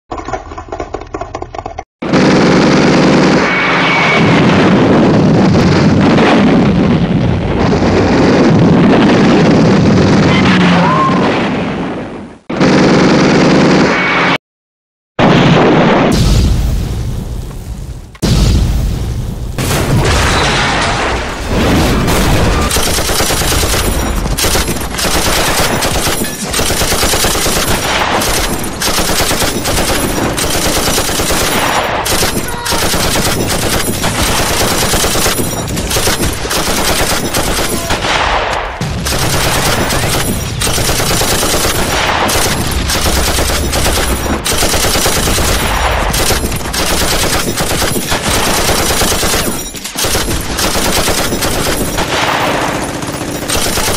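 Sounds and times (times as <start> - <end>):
machine-gun and rifle fire: 1.4 - 10.6, 12.4 - 14.4, 19.6 - 53.9.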